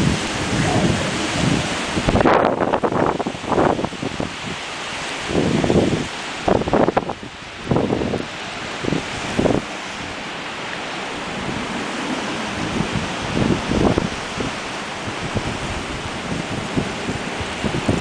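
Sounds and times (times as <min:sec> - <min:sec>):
strong wind hissing: 0:00.0 - 0:18.0
wind buffeting microphone: 0:00.0 - 0:18.0.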